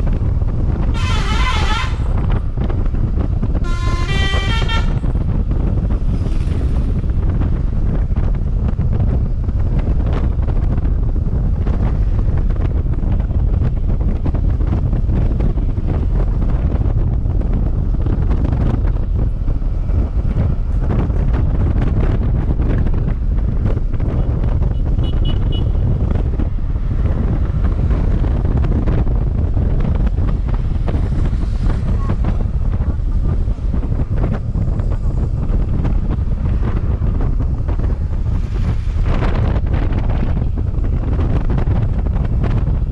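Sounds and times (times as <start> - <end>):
moving vehicle noise: 0.0 - 42.9
wind buffeting microphone: 0.0 - 42.9.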